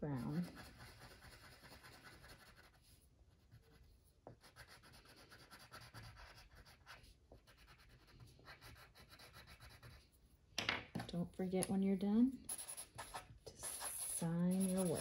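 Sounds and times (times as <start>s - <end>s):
crayon scratching on paper: 0.0s - 10.1s, 12.4s - 15.0s.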